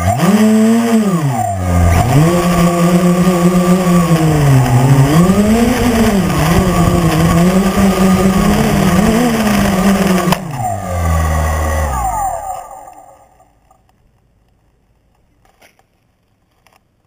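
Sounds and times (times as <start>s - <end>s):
drone motors whining: 0.0s - 13.9s.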